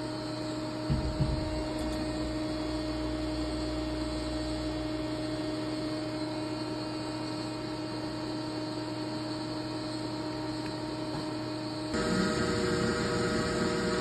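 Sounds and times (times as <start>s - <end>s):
machine humming with fixed tones: 0.0s - 14.0s.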